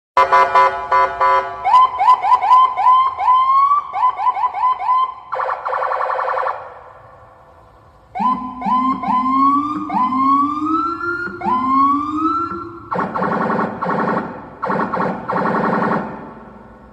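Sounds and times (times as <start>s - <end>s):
police siren: 0.2s - 16.9s.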